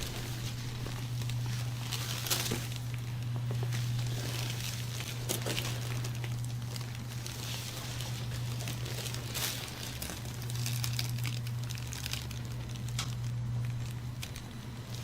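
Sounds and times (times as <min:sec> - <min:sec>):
rustling and crinkling: 0:00.0 - 0:15.0
steady low hum: 0:00.0 - 0:15.0.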